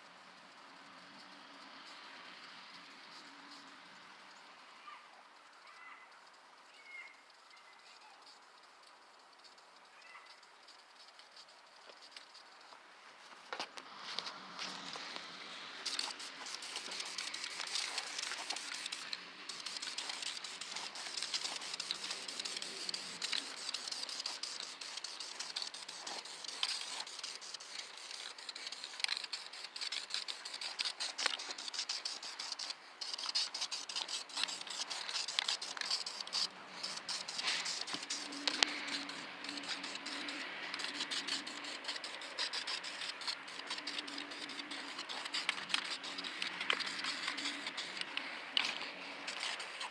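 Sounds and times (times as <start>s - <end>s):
spray paint can hissing: 8.2s - 12.8s, 13.5s - 49.9s.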